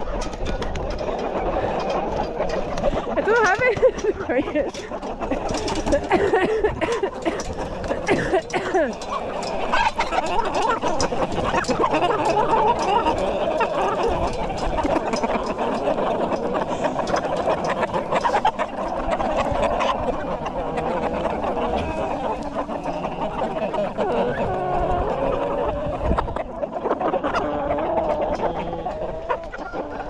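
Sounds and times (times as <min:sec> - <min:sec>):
cockerels clucking: 0:00.0 - 0:30.0.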